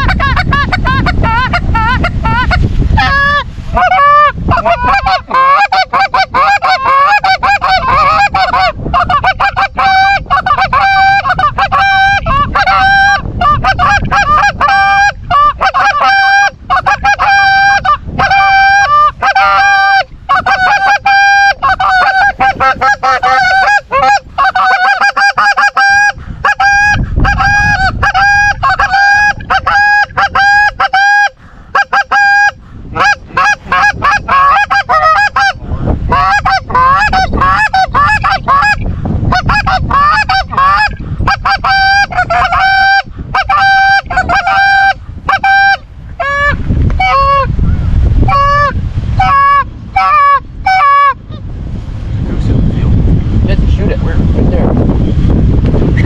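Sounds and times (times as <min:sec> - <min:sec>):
geese honking and clucking: 0:00.0 - 0:47.5, 0:48.2 - 0:51.5
low rumbling wind noise: 0:00.0 - 0:56.0.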